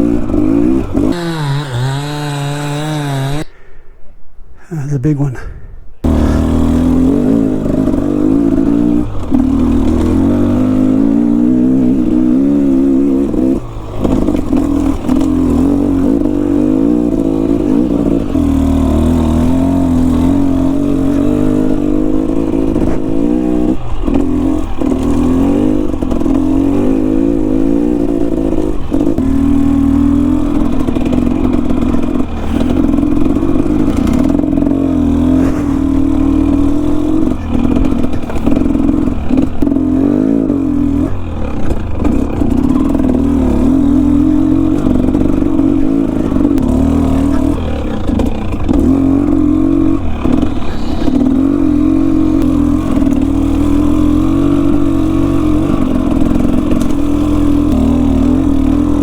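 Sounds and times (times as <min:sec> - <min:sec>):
dirt bike engine revving: 0:00.0 - 0:03.7, 0:06.0 - 0:59.0.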